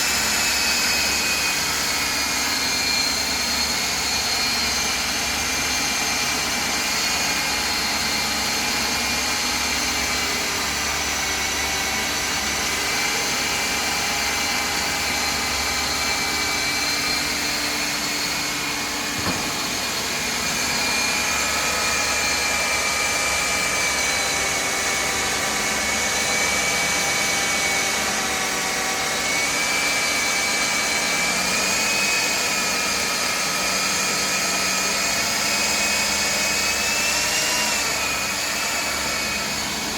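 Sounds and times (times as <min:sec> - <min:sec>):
core drill drilling concrete: 0:00.0 - 0:39.9.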